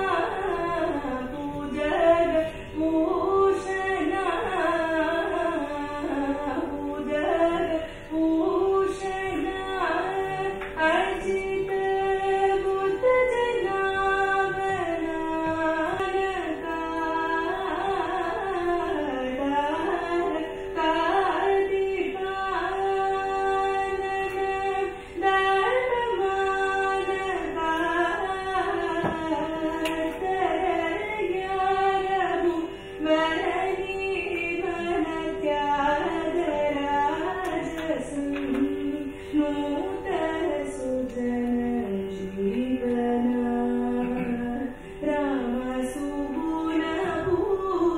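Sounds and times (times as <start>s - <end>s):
person singing classical melody: 0.0s - 47.9s.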